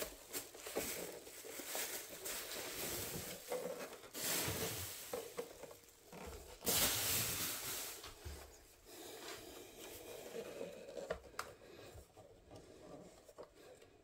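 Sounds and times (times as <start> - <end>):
bubble wrap rustling and crinkling: 0.0 - 11.5.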